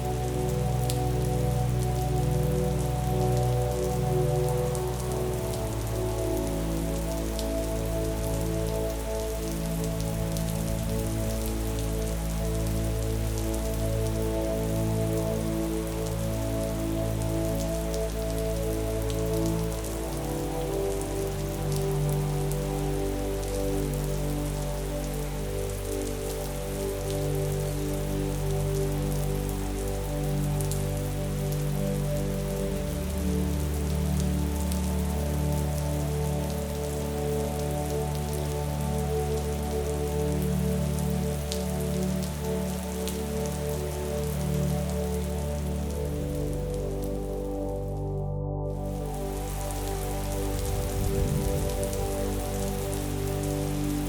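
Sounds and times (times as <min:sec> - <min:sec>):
calm music with held chords: 0:00.0 - 0:54.0
individual raindrops: 0:00.0 - 0:54.0
rain falling: 0:00.0 - 0:54.0.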